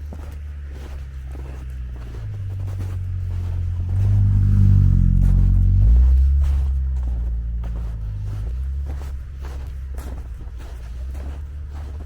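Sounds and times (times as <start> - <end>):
footsteps in snow: 0.0 - 12.0
vehicle engine humming: 0.0 - 12.0.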